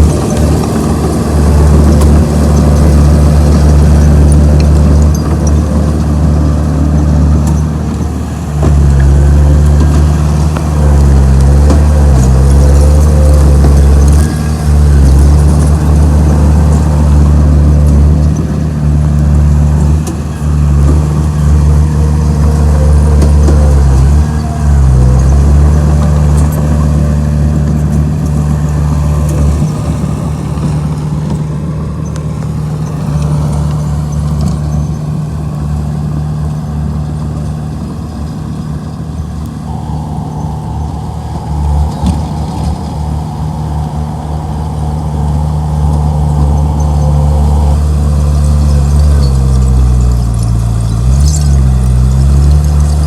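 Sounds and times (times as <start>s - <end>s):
bulldozer diesel engine running: 0.0s - 53.0s
high steady whine: 0.0s - 53.0s.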